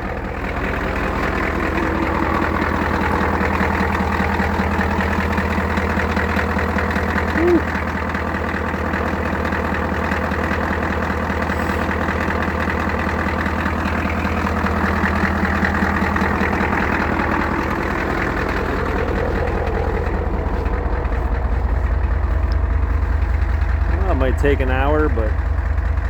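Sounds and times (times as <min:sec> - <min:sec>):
diesel engine idling with clatter: 0:00.0 - 0:26.0.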